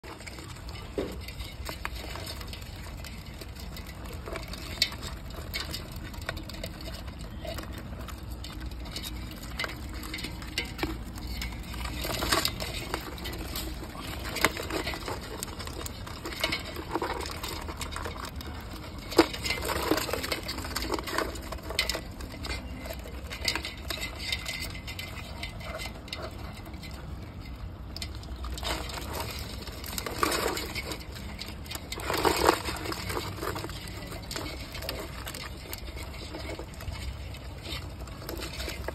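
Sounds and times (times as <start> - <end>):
crabs scraping and clicking in pot: 0.0 - 38.9.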